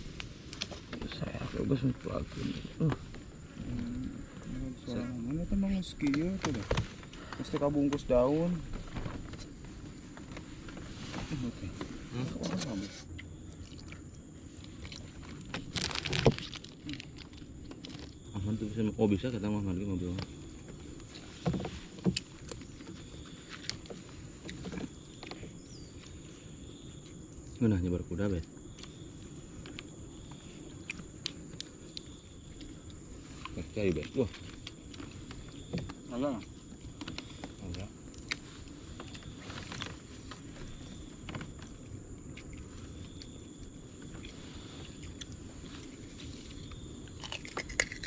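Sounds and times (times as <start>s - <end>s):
high insect drone: 0.0s - 48.0s.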